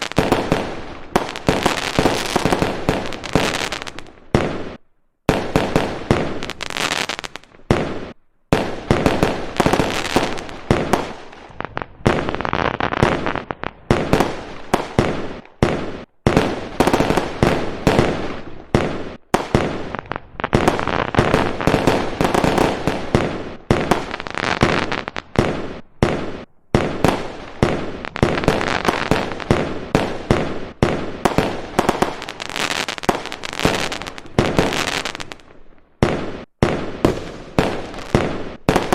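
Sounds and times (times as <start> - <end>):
fireworks banging and crackling: 0.0 - 38.9.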